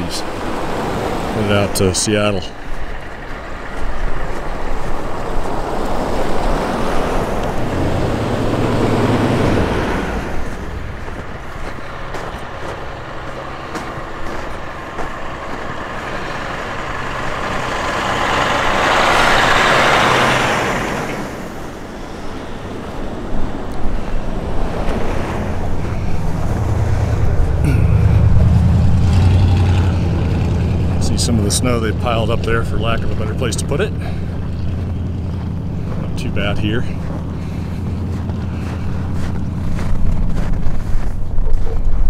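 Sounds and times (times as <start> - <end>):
vehicles passing by: 0.0 - 42.0.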